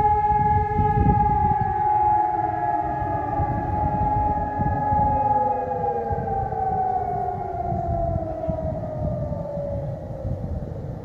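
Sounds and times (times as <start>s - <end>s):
civil defence sirens winding down: 0.0s - 11.0s.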